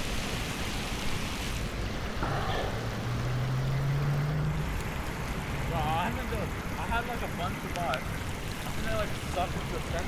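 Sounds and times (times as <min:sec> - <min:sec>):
low engine hum: 0:00.0 - 0:10.0
rain hiss: 0:00.0 - 0:10.0.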